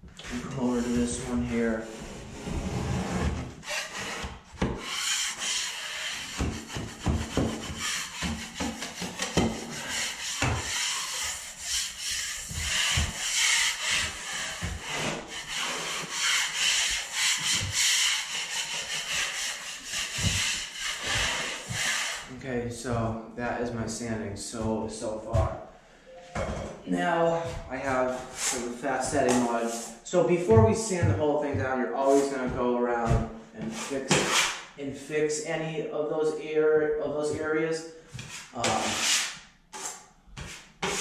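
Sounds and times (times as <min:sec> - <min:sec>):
scraping and sanding drywall: 0:00.2 - 0:25.6, 0:27.2 - 0:34.7, 0:37.3 - 0:41.0.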